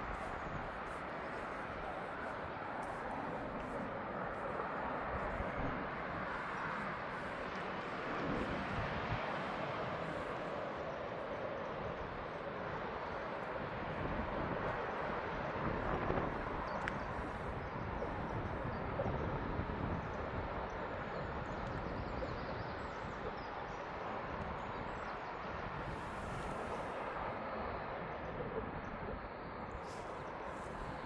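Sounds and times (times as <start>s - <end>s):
outdoor ambient noise: 0.0s - 31.0s.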